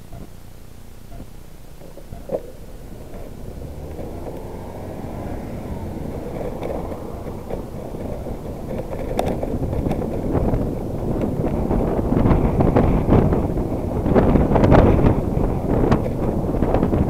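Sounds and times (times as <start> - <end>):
bicycle rattles and knocks: 1.1 - 17.0
tyre and road noise: 1.1 - 17.0
wind rushing over microphone: 1.8 - 17.0.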